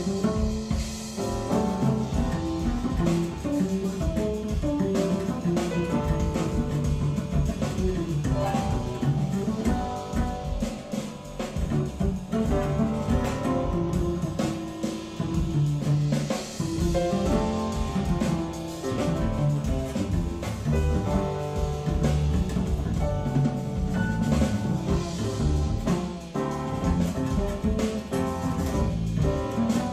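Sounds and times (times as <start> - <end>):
jazz with drums and bass: 0.0 - 29.9.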